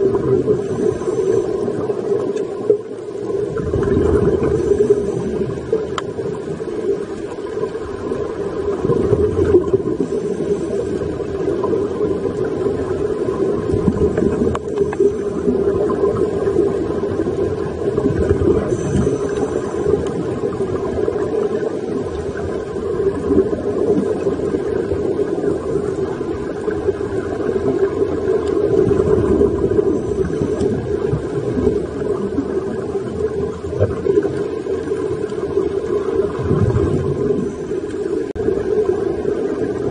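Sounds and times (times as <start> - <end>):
divers' breath bubbling: 0.0 - 39.9
muffled underwater rumble: 0.0 - 39.9.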